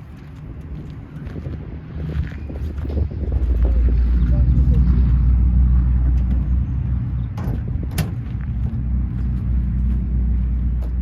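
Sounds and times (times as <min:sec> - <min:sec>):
vehicle engine idling: 0:02.1 - 0:11.0.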